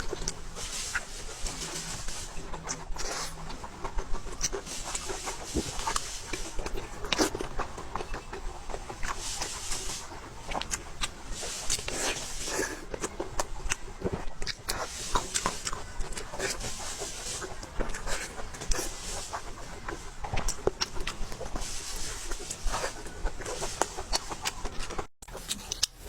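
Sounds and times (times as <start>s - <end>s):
chewing and mouth smacking: 0.0s - 26.0s.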